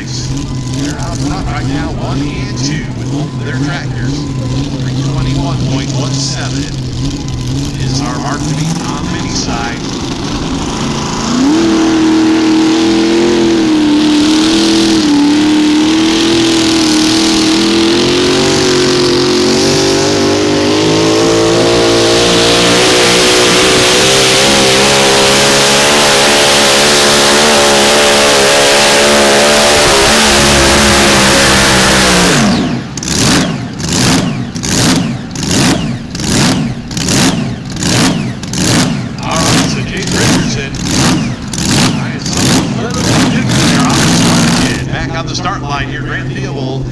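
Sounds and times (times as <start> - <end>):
tractor engine at full throttle: 0.0 - 46.6.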